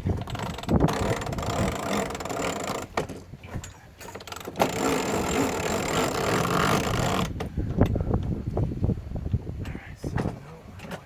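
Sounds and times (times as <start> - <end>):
wind buffeting microphone: 0.0 - 4.0, 4.7 - 11.0.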